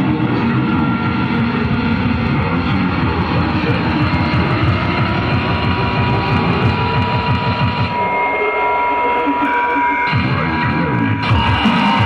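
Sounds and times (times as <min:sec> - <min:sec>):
electronic noise music: 0:00.0 - 0:12.0.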